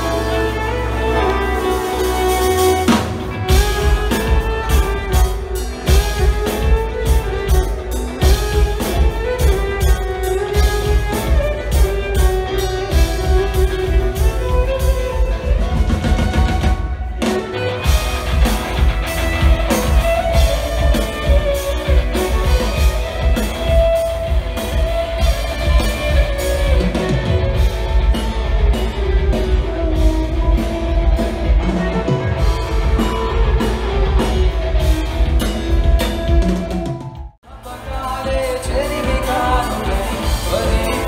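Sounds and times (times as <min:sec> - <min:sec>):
drum kit beat: 0:00.0 - 0:41.0
electric guitar: 0:00.0 - 0:41.0.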